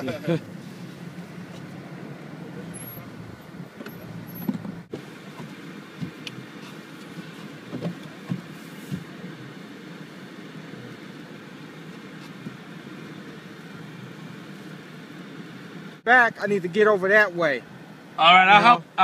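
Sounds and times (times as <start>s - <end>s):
car cabin running noise: 0.0s - 16.0s.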